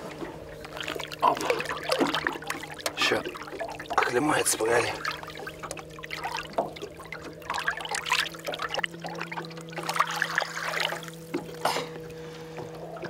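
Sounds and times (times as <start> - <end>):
low steady hum: 0.0 - 13.0
water sloshing and splashing: 0.0 - 13.0.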